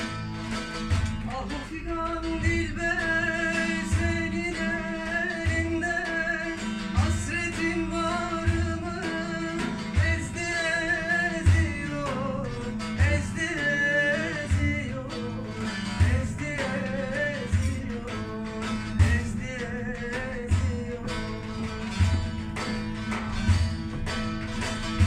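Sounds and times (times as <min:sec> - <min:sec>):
deep frame drum beats: 0:00.0 - 0:25.0
plucked long-necked lute: 0:00.0 - 0:25.0.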